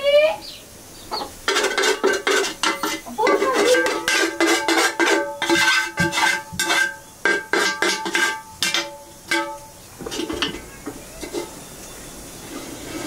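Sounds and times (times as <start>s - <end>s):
steel pots clinking and scraping: 1.2s - 13.0s.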